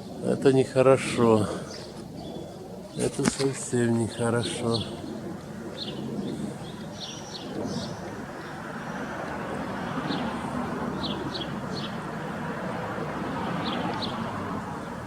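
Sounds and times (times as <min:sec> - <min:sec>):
small birds chirping: 0:00.0 - 0:12.4, 0:13.3 - 0:15.0
low rumbling background noise: 0:00.0 - 0:15.0.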